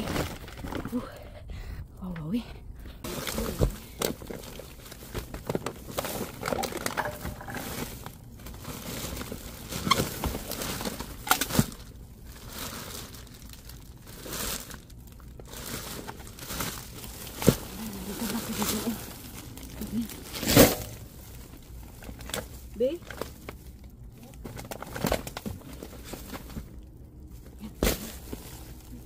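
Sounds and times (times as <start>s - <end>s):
plastic bags crinkling and rustling: 0.0s - 1.2s, 3.0s - 29.0s.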